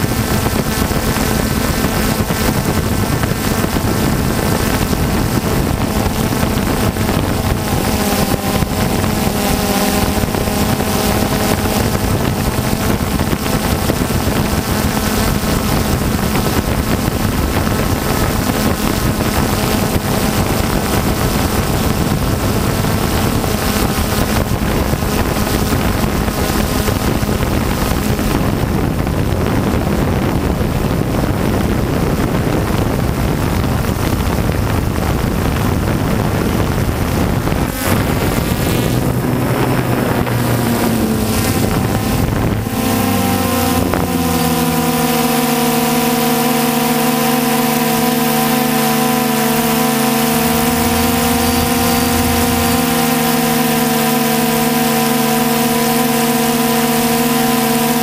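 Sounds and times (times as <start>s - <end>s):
drone motors and propellers humming: 0.0s - 58.0s
wind rushing over microphone: 0.0s - 58.0s.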